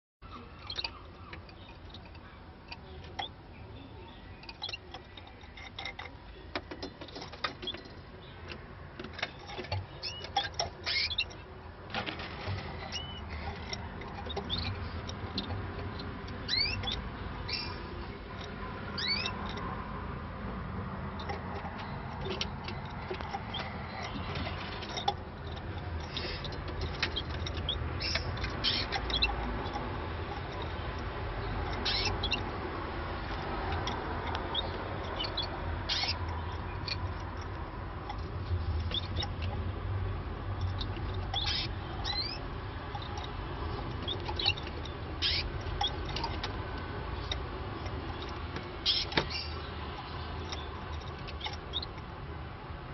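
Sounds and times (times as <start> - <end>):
canaries chirping: 0.2 - 52.9.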